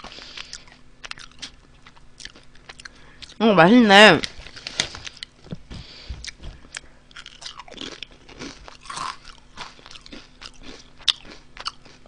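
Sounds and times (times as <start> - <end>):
person chewing crisp chips: 0.0 - 3.4, 4.2 - 12.0.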